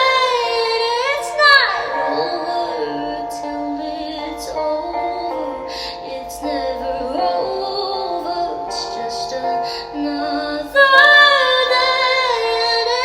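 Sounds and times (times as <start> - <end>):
steady held chords: 0.0 - 13.0
woman singing sustained notes: 0.0 - 13.0.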